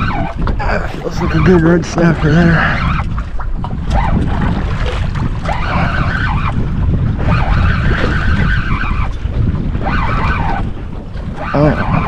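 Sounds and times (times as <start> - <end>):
fishing reel gears whirring: 0.0 - 4.5, 5.2 - 12.0
wind buffeting microphone: 0.0 - 12.0.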